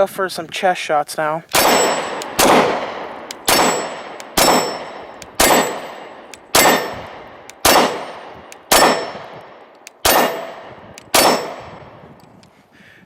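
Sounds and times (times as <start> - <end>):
pistol shots with ringing echo: 1.5 - 12.0.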